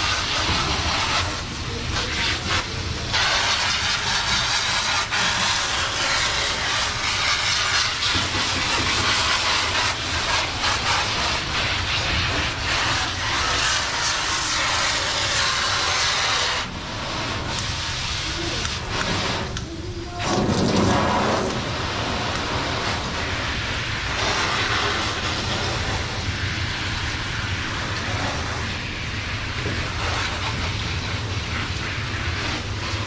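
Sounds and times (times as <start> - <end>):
water spraying from hose: 0.0 - 33.0.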